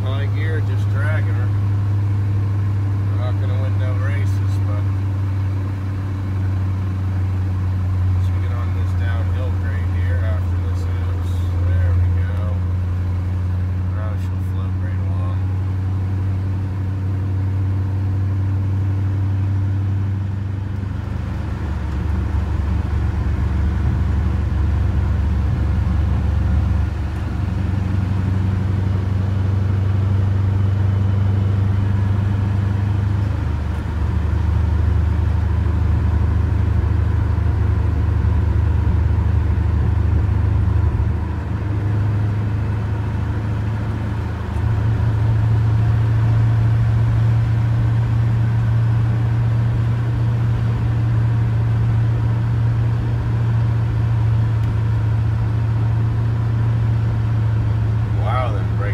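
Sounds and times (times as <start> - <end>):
road noise: 0.0 - 58.9
truck engine drone: 0.0 - 58.9.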